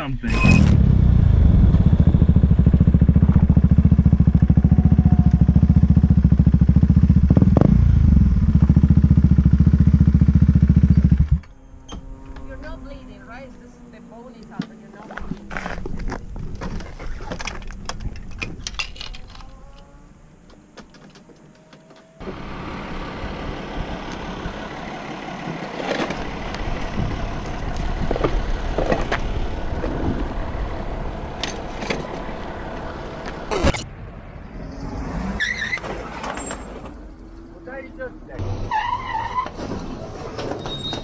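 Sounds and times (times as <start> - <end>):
motorcycle running: 0.3 - 18.4, 19.2 - 34.8.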